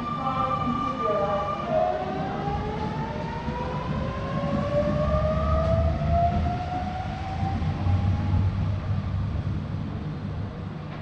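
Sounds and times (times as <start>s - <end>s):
train traction motor whine: 0.0s - 10.8s
wheels rumbling on rails: 0.0s - 11.0s.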